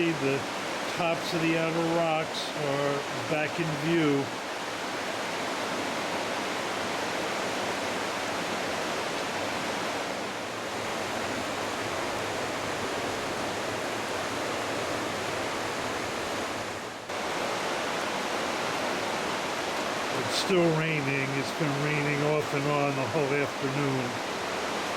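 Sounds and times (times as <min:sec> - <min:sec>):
river rushing: 0:00.0 - 0:24.9.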